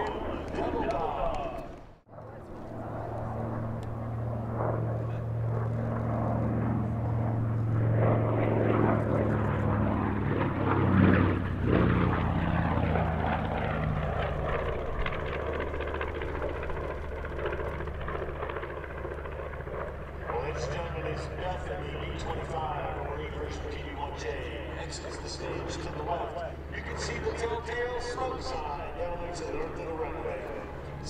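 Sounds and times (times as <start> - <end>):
propeller plane engines flying past: 0.0 - 31.0.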